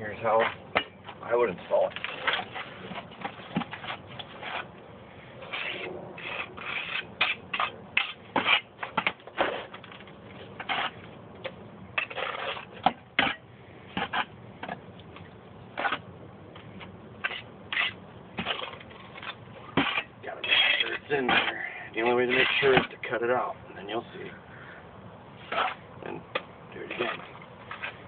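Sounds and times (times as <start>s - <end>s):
scrapes and knocks of hand work: 0.4s - 4.8s, 5.4s - 23.1s, 25.4s - 28.0s.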